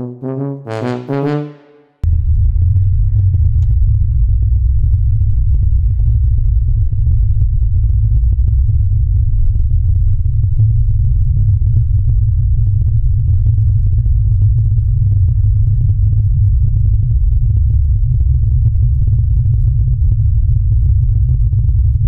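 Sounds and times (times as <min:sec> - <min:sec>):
car engine rumble: 0:02.0 - 0:22.0.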